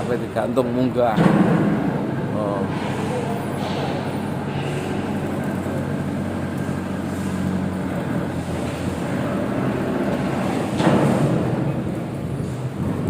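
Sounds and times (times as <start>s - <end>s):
lifting machine engine running: 0.0s - 13.0s.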